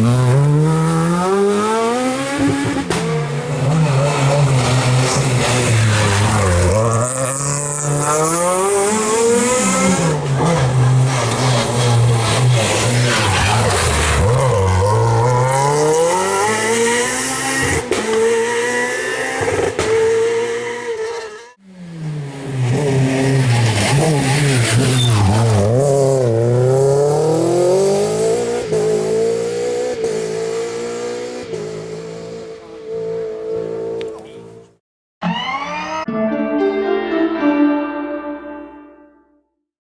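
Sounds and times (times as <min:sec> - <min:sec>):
rally car engine revving: 0:00.0 - 0:34.7
second rally car engine: 0:00.0 - 0:35.5.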